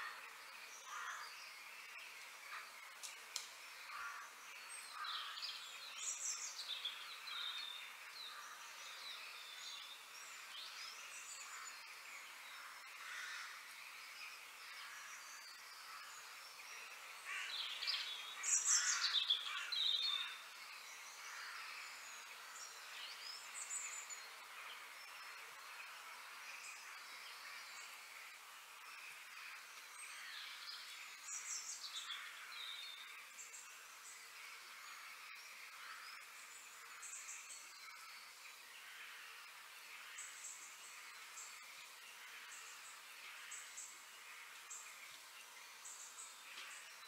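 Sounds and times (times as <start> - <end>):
birds chirping: 0.0 - 47.0
outdoor hiss: 0.0 - 47.0.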